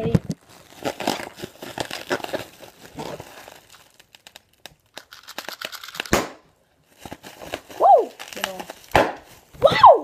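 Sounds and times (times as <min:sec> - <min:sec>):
plastic bag crinkling: 0:00.0 - 0:06.2, 0:06.8 - 0:09.6.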